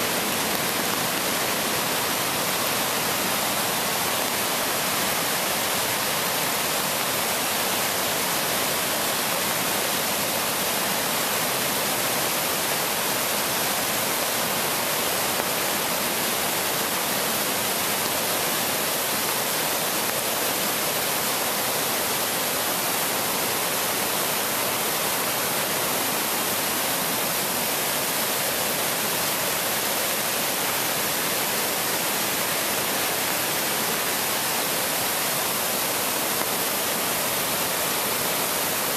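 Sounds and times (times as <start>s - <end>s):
floodwater rushing over rapids: 0.0s - 38.9s.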